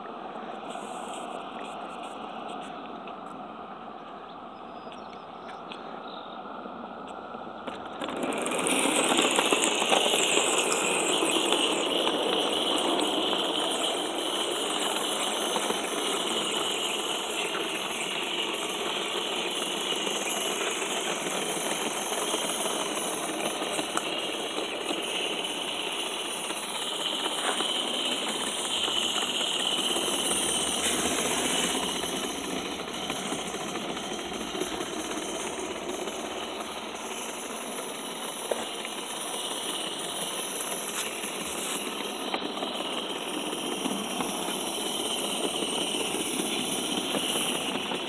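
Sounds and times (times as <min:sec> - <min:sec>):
model steam locomotive chattering: 0:03.8 - 0:48.0.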